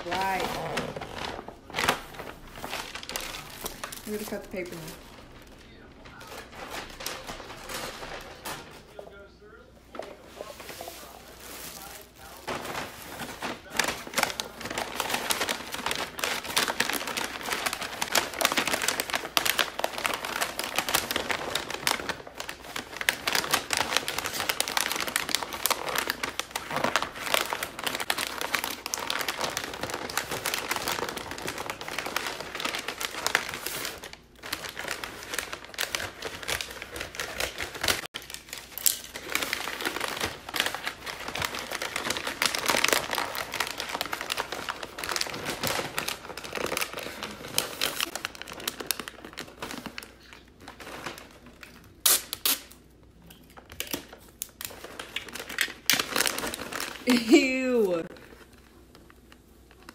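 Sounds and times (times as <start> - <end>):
wrapping paper crinkling: 0.0 - 59.9.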